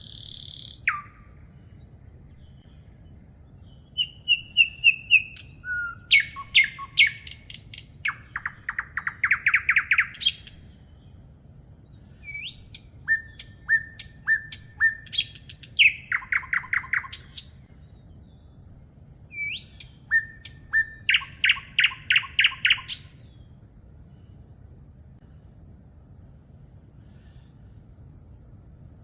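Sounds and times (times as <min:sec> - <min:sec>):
songbird singing: 0:00.0 - 0:24.6.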